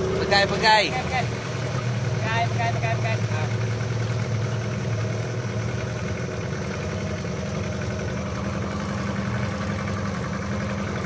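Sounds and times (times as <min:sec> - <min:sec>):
motorboat engine running: 0:00.0 - 0:11.0
water splashing against hull: 0:00.0 - 0:11.0.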